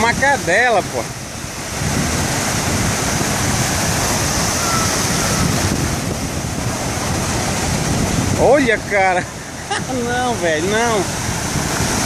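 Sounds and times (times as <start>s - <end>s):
sea waves rushing: 0.0s - 12.0s
wind buffeting microphone: 0.0s - 12.0s.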